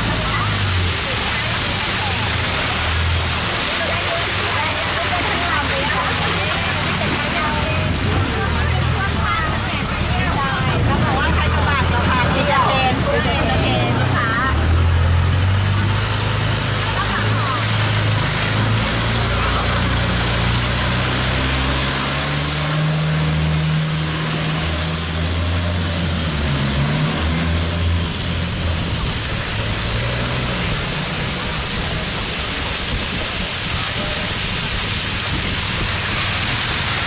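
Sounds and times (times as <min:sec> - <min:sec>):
boat engine humming: 0:00.0 - 0:37.0
water rushing: 0:00.0 - 0:37.0
wind: 0:00.0 - 0:37.0.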